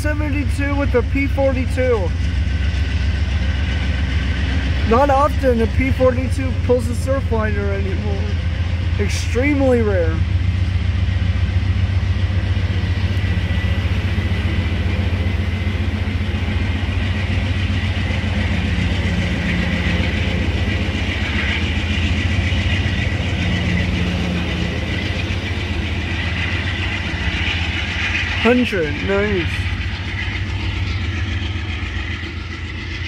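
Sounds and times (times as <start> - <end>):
diesel locomotive engine drone: 0.0 - 33.0
thin steady whine: 0.0 - 33.0.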